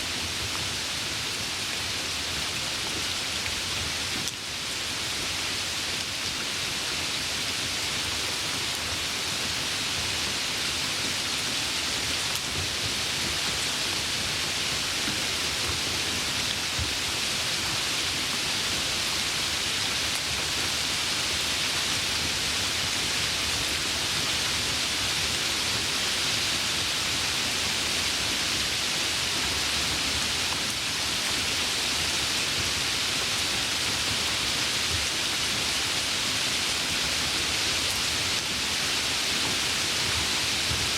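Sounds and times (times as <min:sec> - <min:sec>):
light rain hissing: 0:00.0 - 0:40.9.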